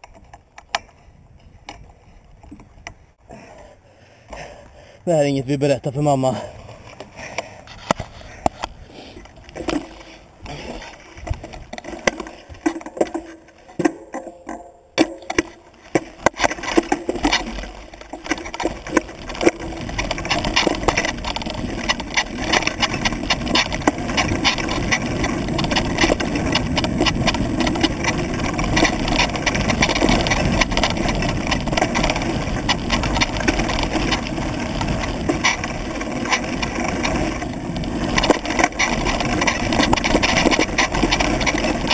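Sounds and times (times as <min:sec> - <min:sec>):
bike clicking and rattling: 0:00.0 - 0:41.9
bike tyres on dirt and roots: 0:00.0 - 0:41.9.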